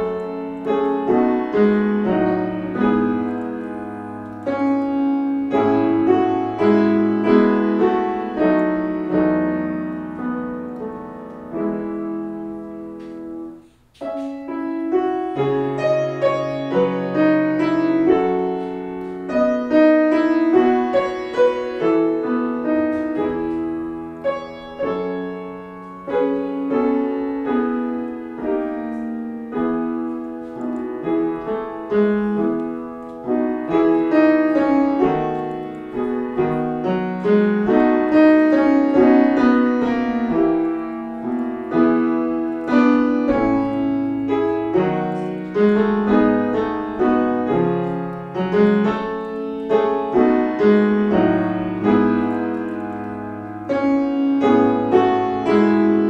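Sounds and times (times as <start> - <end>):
gentle solo piano piece: 0.0 - 56.0.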